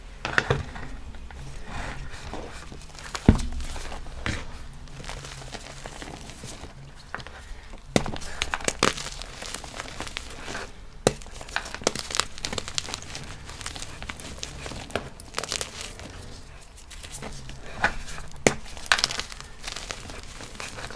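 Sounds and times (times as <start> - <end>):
chalk blocks crunching and snapping: 0.3 - 20.9.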